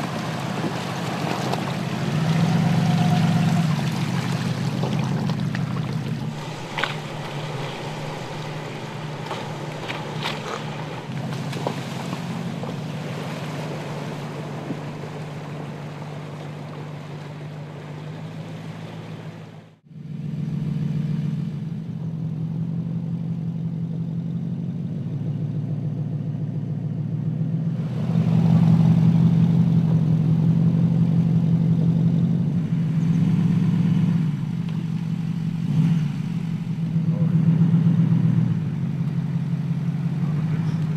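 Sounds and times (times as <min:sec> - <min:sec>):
car engine running at low revs: 0:00.0 - 0:40.9.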